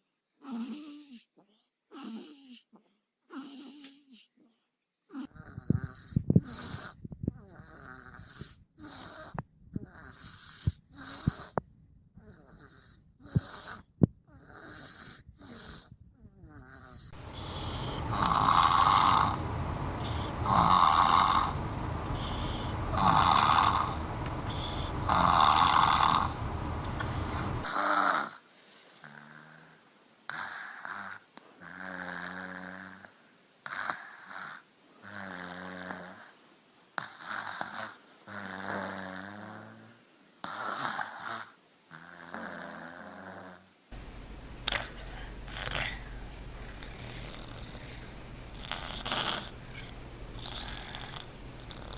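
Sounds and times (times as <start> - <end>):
person snoring: 5.1 - 11.6, 12.2 - 26.4, 27.3 - 36.3, 37.0 - 43.7, 44.6 - 51.9.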